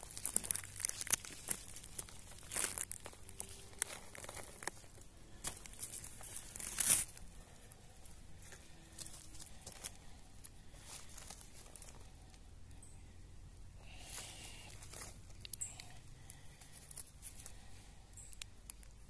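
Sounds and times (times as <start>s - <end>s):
rustling and crinkling: 0.0s - 13.1s, 13.8s - 19.0s.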